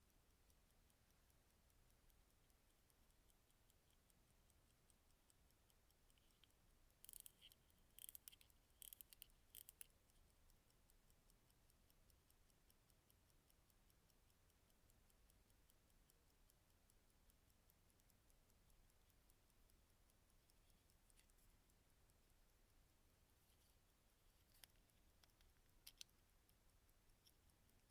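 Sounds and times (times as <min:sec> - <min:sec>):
watch ticking faintly: 0:00.0 - 0:27.9.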